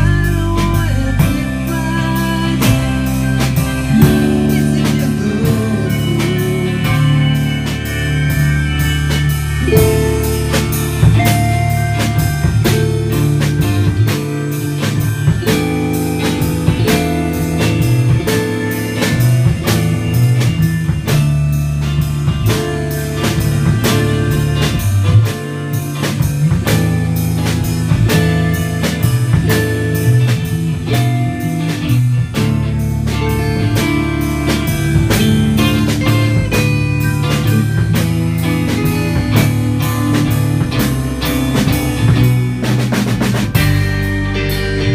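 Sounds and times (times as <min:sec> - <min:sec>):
bass line: 0:00.0 - 0:44.9
drum kit beat: 0:00.0 - 0:44.9
guitar: 0:00.0 - 0:44.9.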